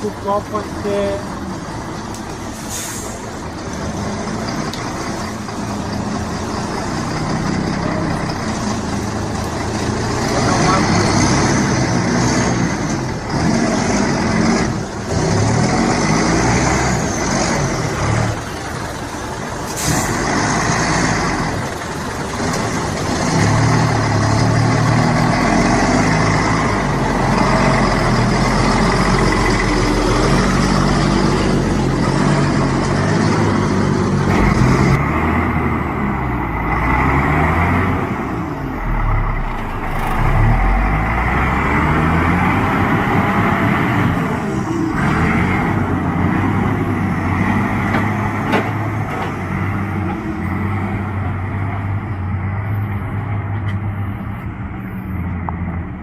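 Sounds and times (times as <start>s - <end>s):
diesel truck engine working hard: 0.0s - 56.0s.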